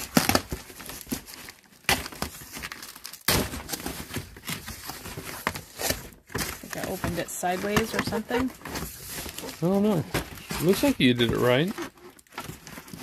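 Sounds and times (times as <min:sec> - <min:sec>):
cardboard and packaging rustling: 0:00.0 - 0:13.0.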